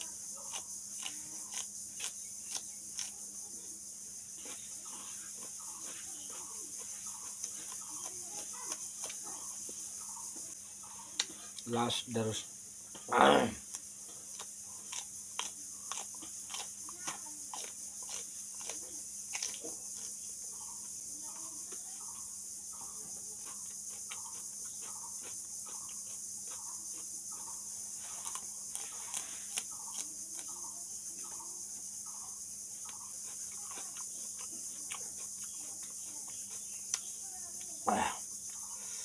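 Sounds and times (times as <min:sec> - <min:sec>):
crunchy chewing: 0:00.0 - 0:11.7, 0:12.9 - 0:39.0
crickets chirring: 0:00.0 - 0:39.0.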